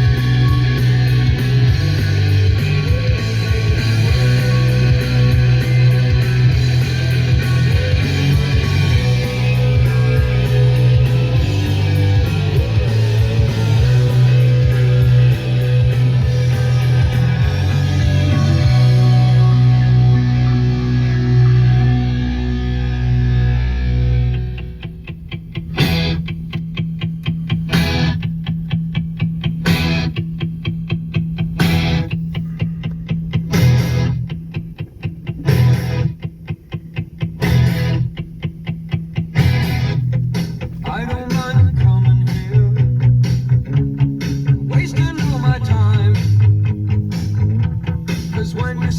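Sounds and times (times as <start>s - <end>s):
distorted electric guitar: 0.0s - 48.9s
heavy bass line: 0.0s - 48.9s
rock music: 0.0s - 48.9s.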